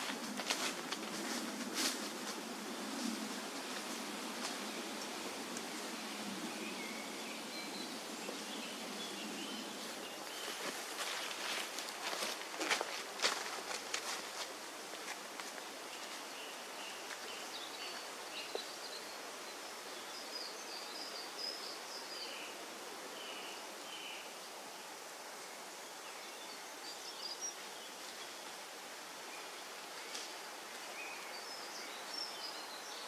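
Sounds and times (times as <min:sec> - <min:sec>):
rustling hiss: 0:00.0 - 0:33.0.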